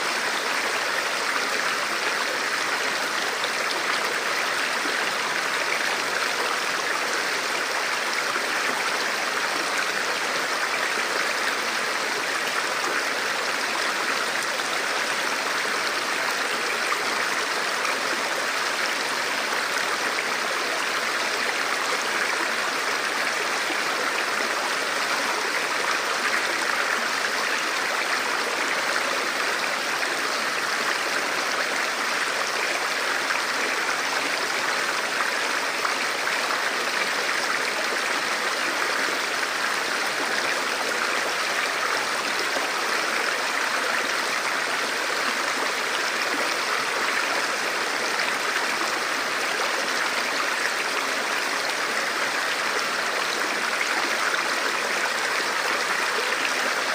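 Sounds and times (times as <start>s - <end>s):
river flowing over rocks: 0.0s - 56.9s.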